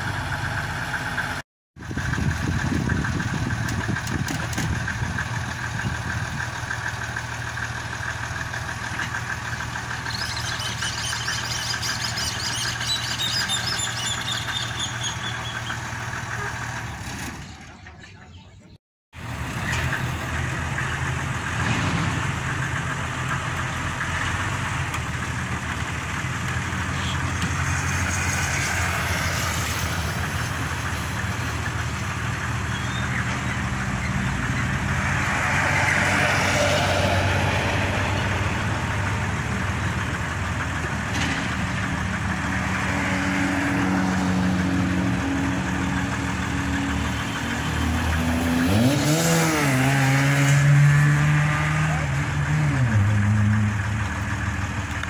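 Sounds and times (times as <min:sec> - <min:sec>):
truck engine running under load: 0:00.0 - 0:18.1, 0:19.2 - 0:55.0.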